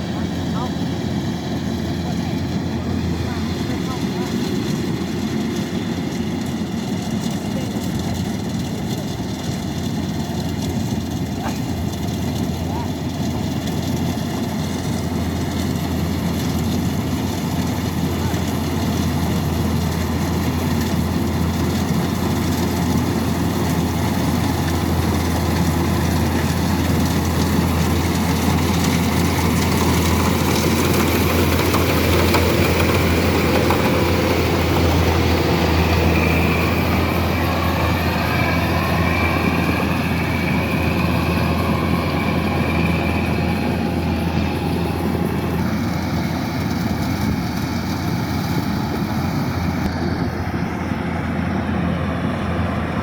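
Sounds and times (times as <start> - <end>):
combine harvester engine drone: 0.0 - 53.0.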